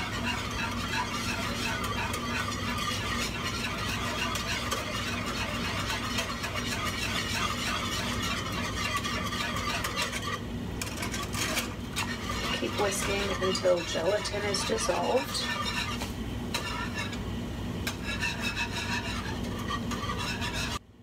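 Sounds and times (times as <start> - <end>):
whisk scraping in saucepan: 0.0 - 20.9.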